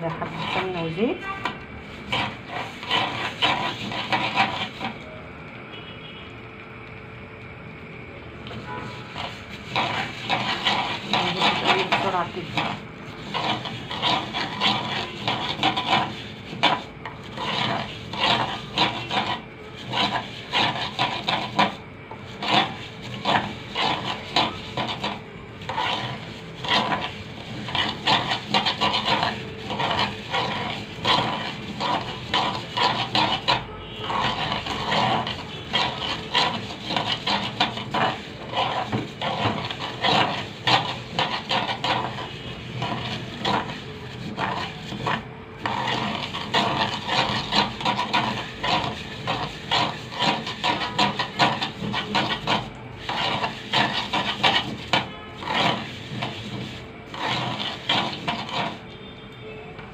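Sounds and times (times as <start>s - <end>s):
spoon stirring and scraping pot: 0.0s - 6.2s, 8.4s - 59.2s
vermicelli frying: 0.0s - 59.5s.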